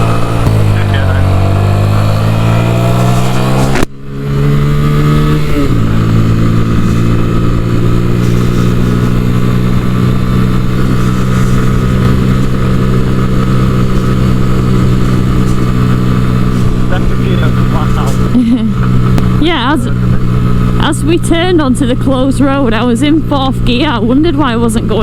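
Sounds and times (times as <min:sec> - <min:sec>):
motorcycle engine under load: 0:00.0 - 0:25.0.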